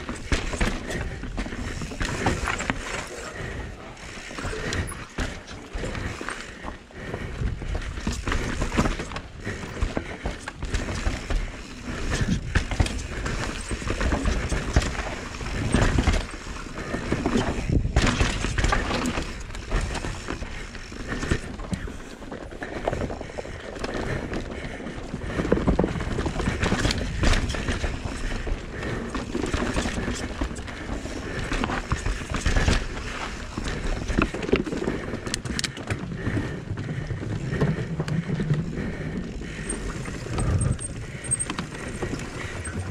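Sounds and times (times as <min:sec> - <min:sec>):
bike chain and frame rattling: 0:00.0 - 0:42.9
bike tyres on dirt: 0:00.0 - 0:42.9
wheels clattering over wooden planks: 0:00.0 - 0:42.9.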